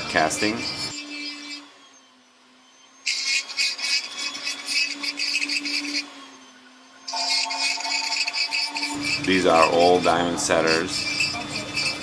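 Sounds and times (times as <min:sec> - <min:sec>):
scratchy metallic tool strokes: 0:00.0 - 0:01.8, 0:03.0 - 0:12.0.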